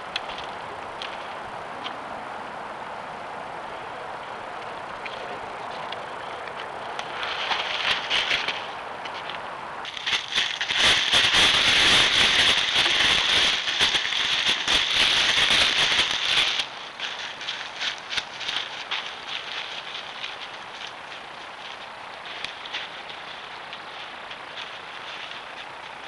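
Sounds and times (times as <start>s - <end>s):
dry leaves rustling and crackling: 4.1s - 26.0s.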